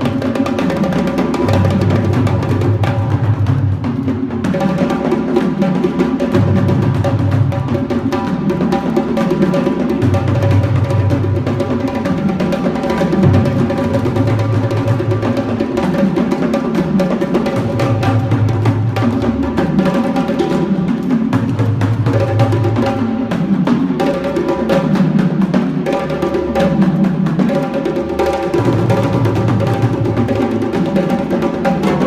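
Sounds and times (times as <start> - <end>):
deep drums: 0.0 - 32.0.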